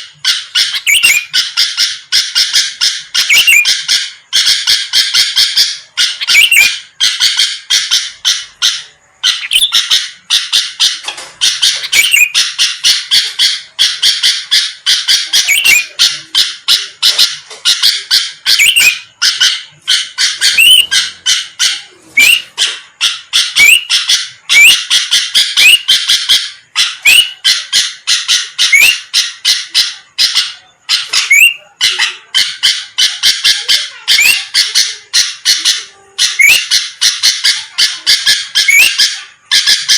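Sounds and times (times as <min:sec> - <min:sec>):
bird singing harsh chattering: 0:00.0 - 0:39.9.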